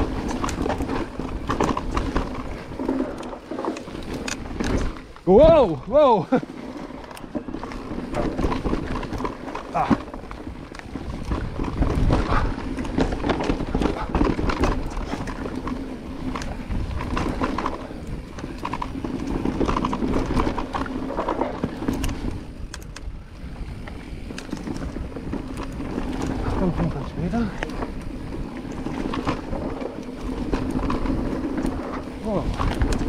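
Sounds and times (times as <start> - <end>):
bike rattling and knocking: 0.0 - 33.0
tyres rolling over dirt and leaves: 0.0 - 33.0.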